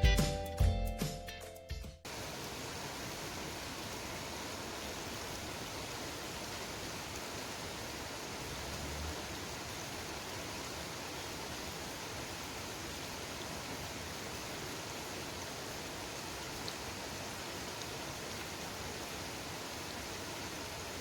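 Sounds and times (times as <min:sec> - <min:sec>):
running water rushing: 0:02.1 - 0:21.0.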